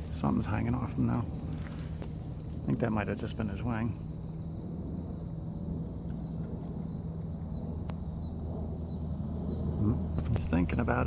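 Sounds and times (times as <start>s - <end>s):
insect chirping: 0.0s - 11.0s
low outdoor rumble: 0.0s - 11.0s.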